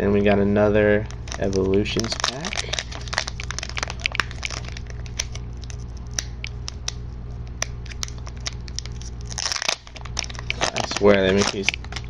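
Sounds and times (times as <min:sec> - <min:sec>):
foil wrapper crinkling: 0:00.9 - 0:12.0.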